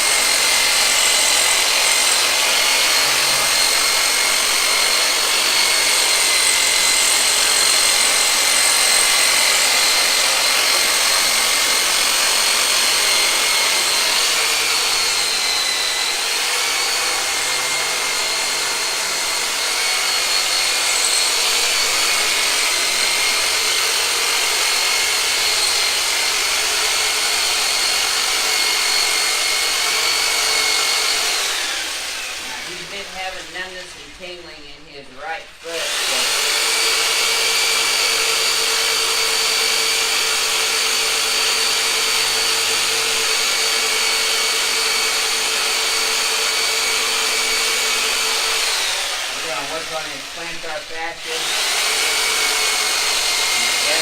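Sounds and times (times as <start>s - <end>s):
electric saw high whine: 0.0s - 54.0s.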